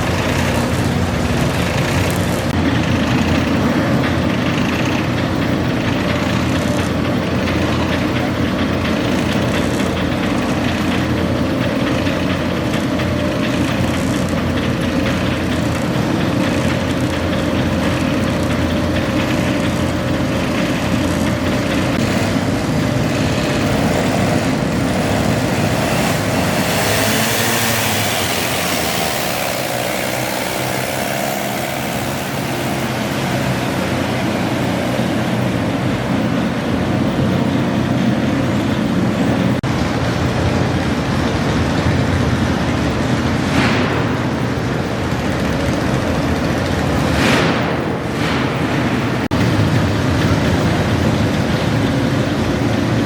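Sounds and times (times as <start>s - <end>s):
tractor engine running loudly: 0.0s - 53.0s.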